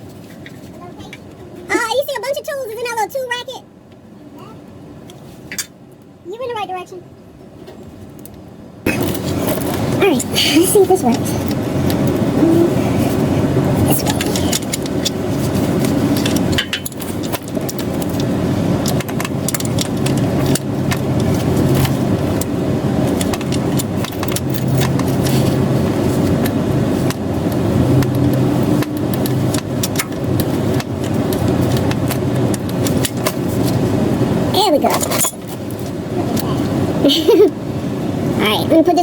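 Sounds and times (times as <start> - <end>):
low mechanical drone: 3.3 - 39.0.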